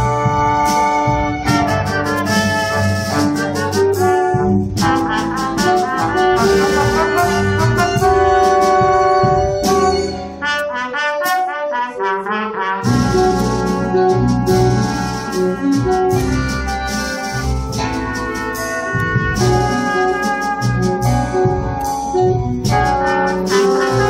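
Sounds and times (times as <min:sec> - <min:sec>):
upright bass: 0:00.0 - 0:10.8, 0:12.6 - 0:24.0
keyboard: 0:00.0 - 0:24.0
trumpet: 0:00.0 - 0:24.0.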